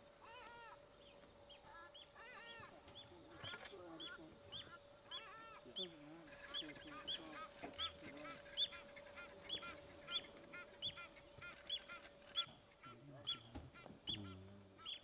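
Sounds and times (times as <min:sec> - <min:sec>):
wild dogs twittering chirps: 0:00.2 - 0:15.0.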